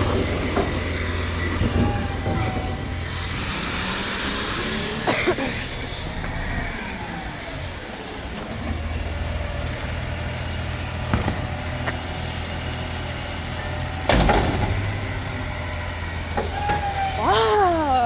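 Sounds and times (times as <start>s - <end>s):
garbage truck engine running: 0.0s - 18.0s.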